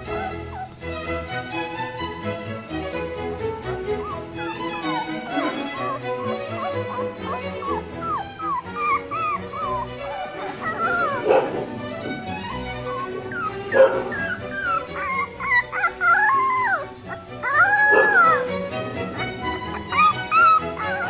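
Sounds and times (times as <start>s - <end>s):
background music: 0.0s - 21.0s
puppy whimpering: 0.0s - 21.0s.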